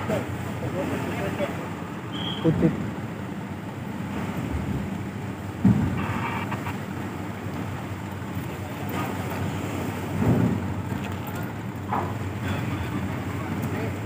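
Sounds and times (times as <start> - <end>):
diesel engine rumble: 0.0 - 14.0.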